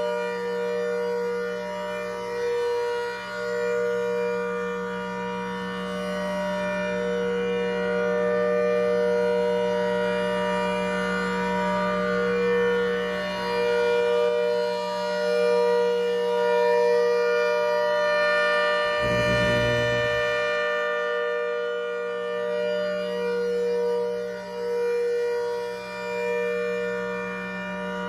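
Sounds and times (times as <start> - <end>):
warning siren chord: 0.0 - 28.0.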